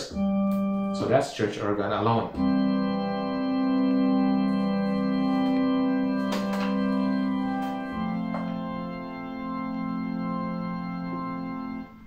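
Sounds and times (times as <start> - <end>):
organ holding chords: 0.0 - 12.0.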